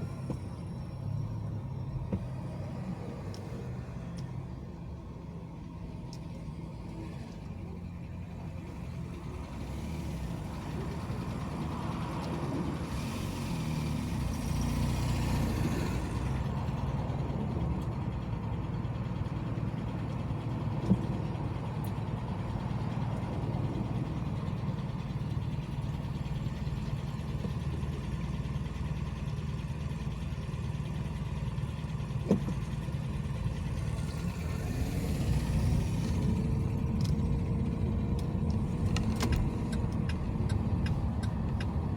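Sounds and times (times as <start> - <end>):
car road and engine rumble: 0.0 - 41.9.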